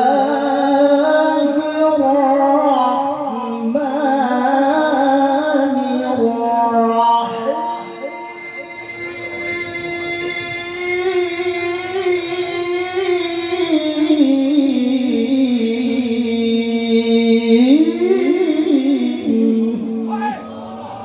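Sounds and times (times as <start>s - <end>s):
person chanting over a pa system: 0.0s - 21.0s.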